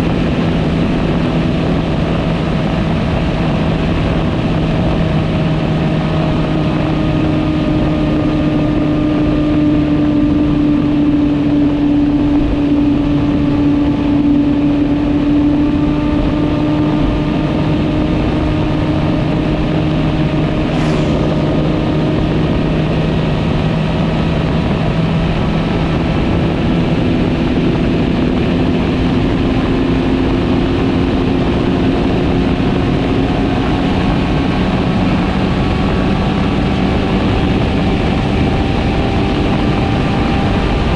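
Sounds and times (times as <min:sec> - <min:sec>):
motorcycle engine cruising: 0:00.0 - 0:40.9
wind and road rush: 0:00.0 - 0:40.9.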